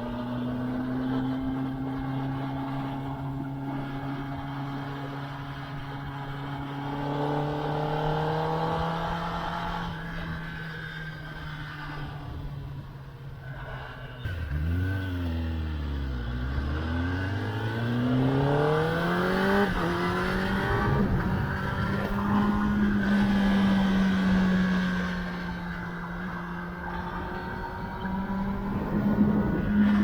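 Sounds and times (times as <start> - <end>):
motorcycle engine revving: 0.0 - 12.5, 14.2 - 30.0.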